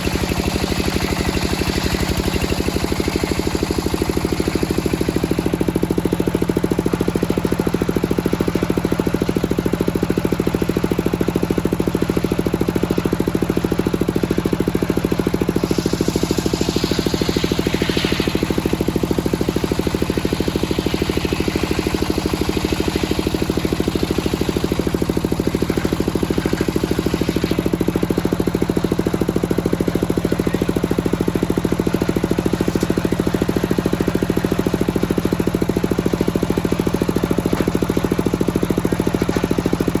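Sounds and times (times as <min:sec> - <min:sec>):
sawmill engine running: 0:00.0 - 0:40.0.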